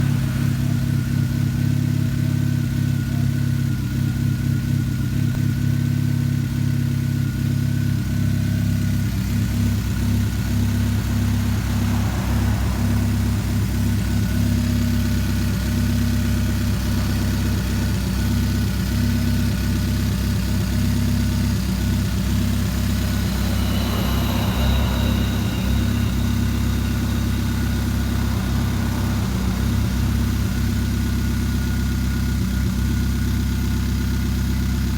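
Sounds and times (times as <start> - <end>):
car engine idling unevenly: 0.0 - 34.9.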